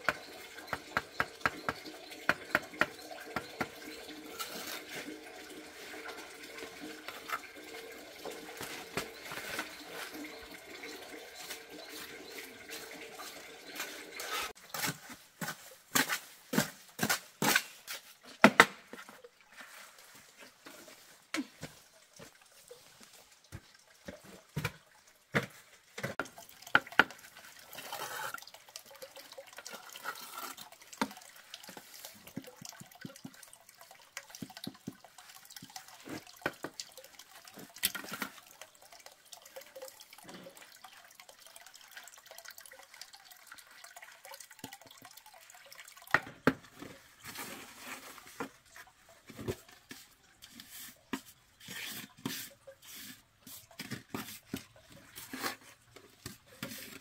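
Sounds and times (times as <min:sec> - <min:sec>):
water sloshing and dripping: 0:00.0 - 0:57.0.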